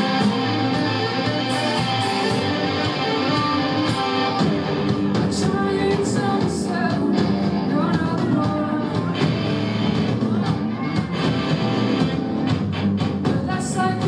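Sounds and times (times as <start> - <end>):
person singing: 0.0 - 11.5, 13.2 - 14.0
guitar playing: 0.0 - 14.0.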